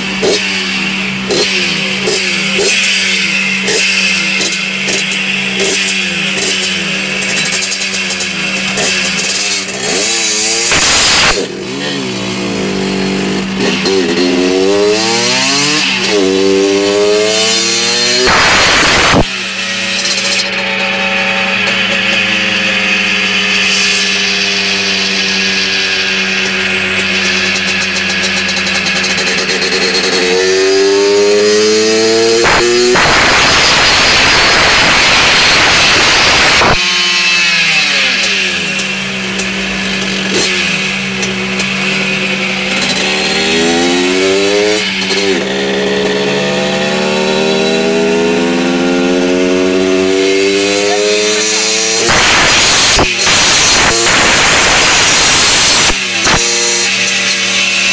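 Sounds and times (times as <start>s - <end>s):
two-stroke moped engine revving: 0.0s - 57.9s.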